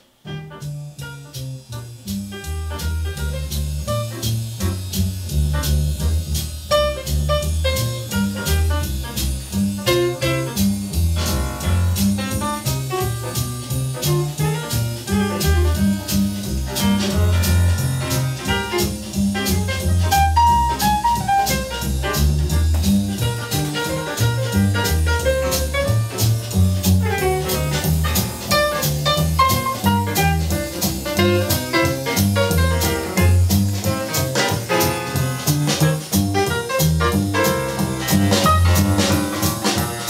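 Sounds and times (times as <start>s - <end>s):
drum strokes: 0.0s - 40.0s
swing jazz band playing: 0.0s - 40.0s.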